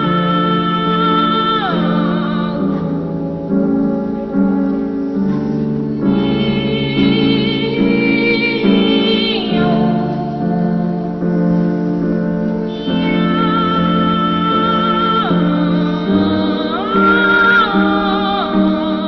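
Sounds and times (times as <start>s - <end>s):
instrumental accompaniment: 0.0s - 19.0s.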